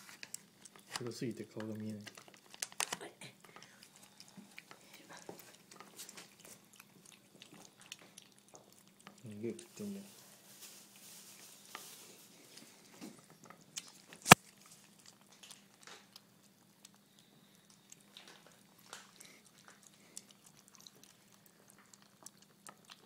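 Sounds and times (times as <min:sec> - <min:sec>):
cats chewing: 0:00.0 - 0:23.0
faint steady hum: 0:00.0 - 0:23.0.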